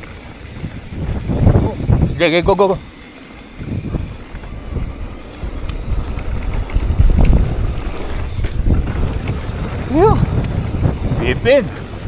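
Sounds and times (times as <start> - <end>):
mountain bike rumbling on dirt trail: 0.0 - 12.0
wind buffeting microphone: 0.0 - 12.0.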